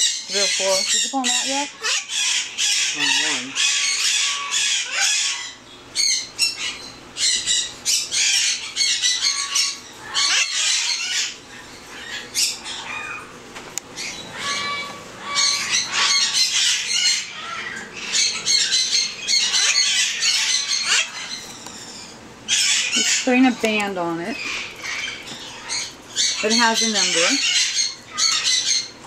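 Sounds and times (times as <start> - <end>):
parrots squawking: 0.0 - 29.0.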